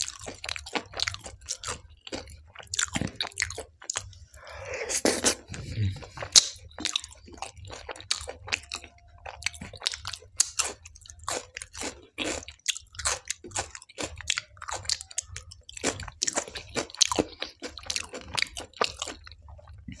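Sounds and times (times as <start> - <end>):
person chewing with wet smacking: 0.0 - 20.0.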